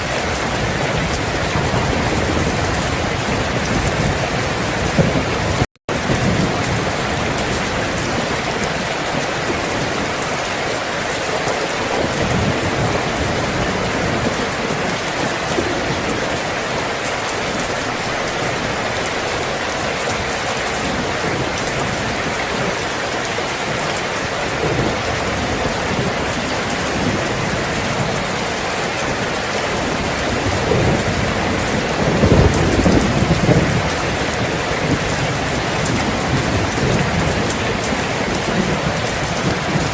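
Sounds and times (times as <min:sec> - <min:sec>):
heavy rainfall: 0:00.0 - 0:39.9
thunder rumbling: 0:00.0 - 0:39.9.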